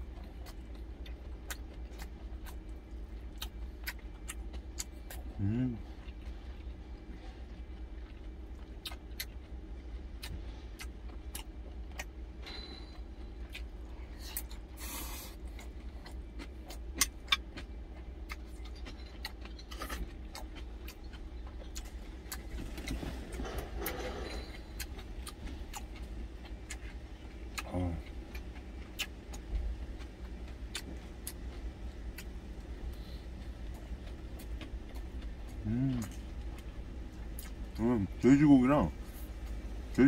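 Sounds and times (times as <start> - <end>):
chewing: 0.0 - 37.9
steady low hum: 0.0 - 40.0.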